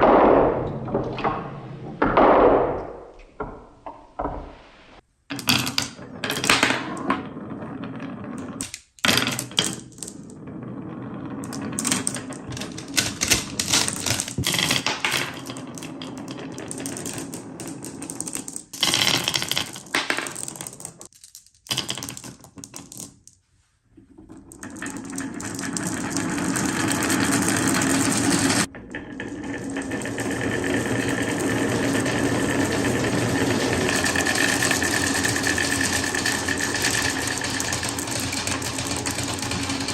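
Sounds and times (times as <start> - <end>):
marbles rolling down track: 5.3 - 23.3, 24.2 - 39.9.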